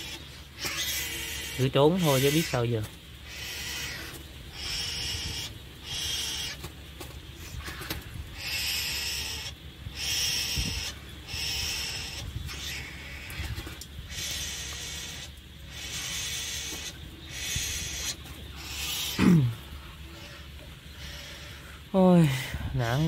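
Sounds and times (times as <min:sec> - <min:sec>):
bird harsh raspy call: 0:00.0 - 0:06.7, 0:07.3 - 0:23.0.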